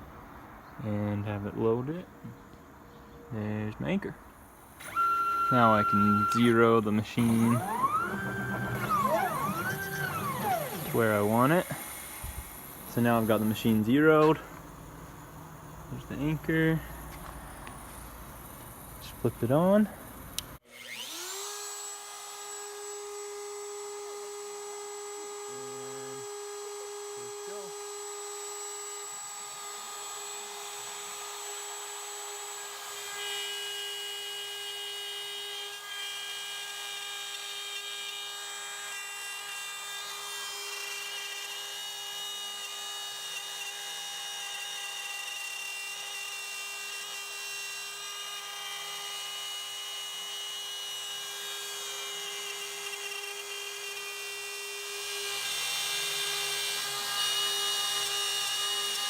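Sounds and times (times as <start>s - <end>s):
bit cutting wood: 4.8s - 14.7s, 20.6s - 59.0s
router spindle whining: 4.8s - 19.1s, 20.6s - 59.0s.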